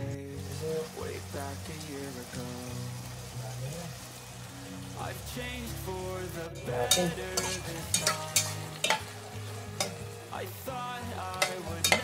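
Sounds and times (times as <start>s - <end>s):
background music: 0.0s - 12.0s
vegetables cooking in a pot: 0.0s - 12.0s.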